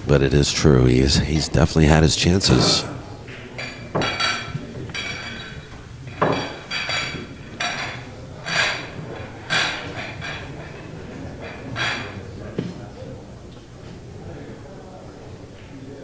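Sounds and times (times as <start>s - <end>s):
pool balls clacking: 0.0s - 13.2s.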